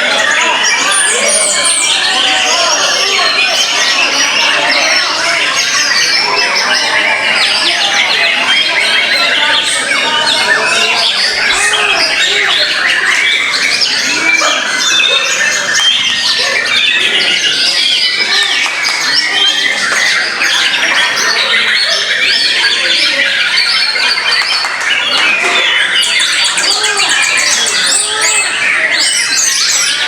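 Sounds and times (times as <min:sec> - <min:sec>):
caged birds singing: 0:00.0 - 0:30.0.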